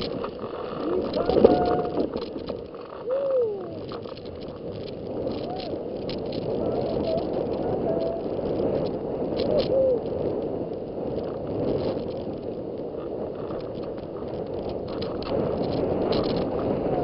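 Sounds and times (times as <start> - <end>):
light crackles: 0.0 - 17.0
snow rushing underfoot: 0.0 - 17.0
wind rumble on microphone: 0.0 - 17.0.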